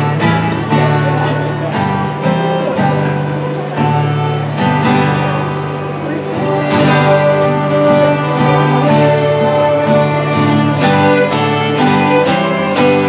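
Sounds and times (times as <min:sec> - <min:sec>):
fiddle ensemble playing: 0:00.0 - 0:13.0
plucked-string accompaniment: 0:00.0 - 0:13.0.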